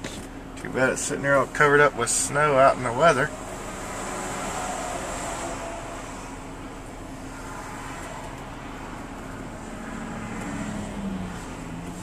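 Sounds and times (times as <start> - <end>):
car engine humming: 0.0 - 12.0
road noise rumble: 0.0 - 12.0.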